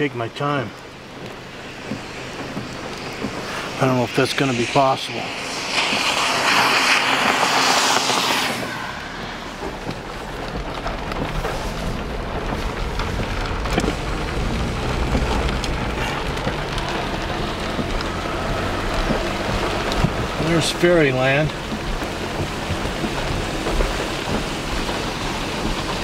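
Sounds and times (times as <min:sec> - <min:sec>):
car passing on wet road: 0:00.0 - 0:26.0
low rumble of road noise: 0:00.0 - 0:26.0
rain pattering: 0:00.0 - 0:26.0.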